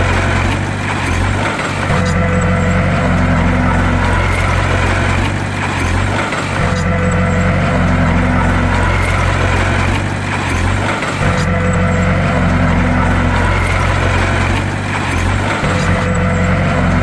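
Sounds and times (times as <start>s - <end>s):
bulldozer diesel engine rumbling: 0.0s - 17.0s.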